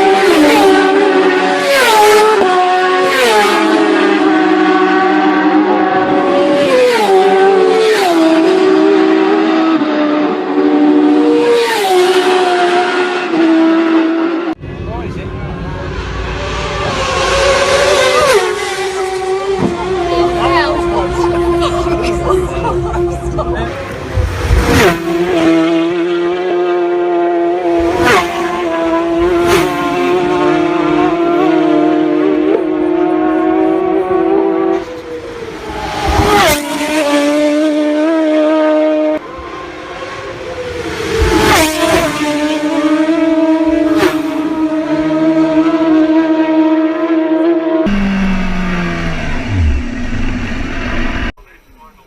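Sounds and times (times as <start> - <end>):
racing motorcycles passing: 0.0 - 51.3.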